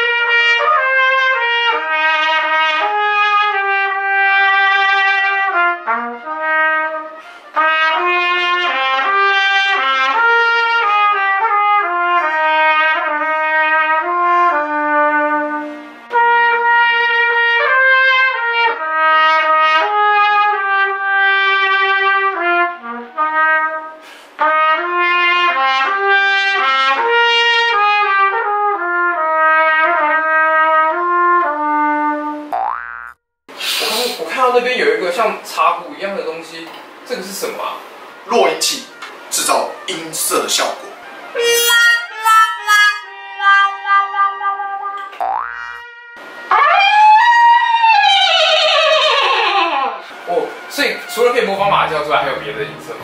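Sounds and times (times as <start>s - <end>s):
trumpet solo melody: 0.0s - 32.5s, 40.9s - 53.0s.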